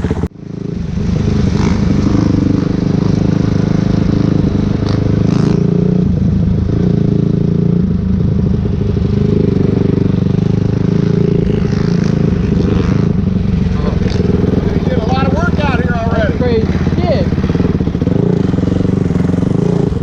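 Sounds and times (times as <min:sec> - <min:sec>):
dirt bike engine idling: 0:00.0 - 0:20.0.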